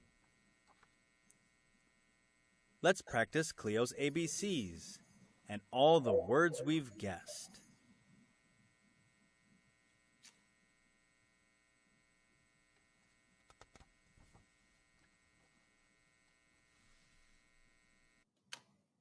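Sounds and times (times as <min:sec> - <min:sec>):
faint electrical hum: 0:00.0 - 0:18.3.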